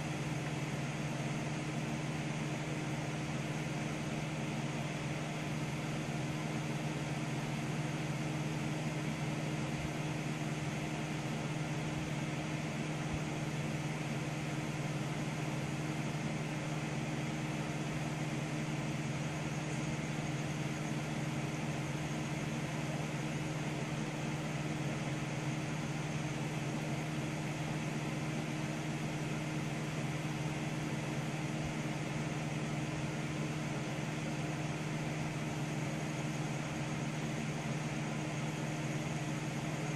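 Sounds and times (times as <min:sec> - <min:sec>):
computer hum and fan whir: 0:00.0 - 0:39.9.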